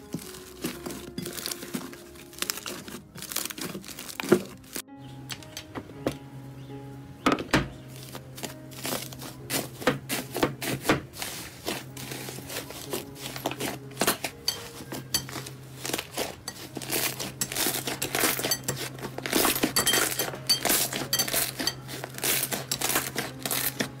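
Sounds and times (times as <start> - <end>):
foil crinkling: 0.0 - 5.5, 7.9 - 24.0
slime crackling and popping: 0.0 - 5.5, 7.9 - 24.0.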